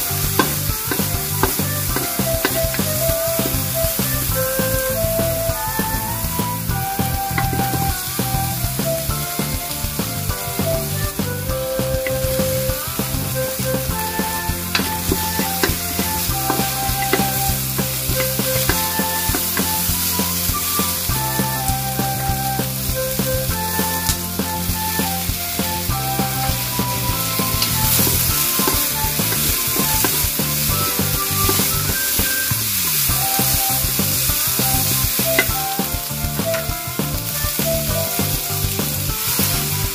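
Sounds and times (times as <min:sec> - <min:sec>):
background music: 0:00.0 - 0:39.9
vegetables sizzling in a wok: 0:00.0 - 0:39.9.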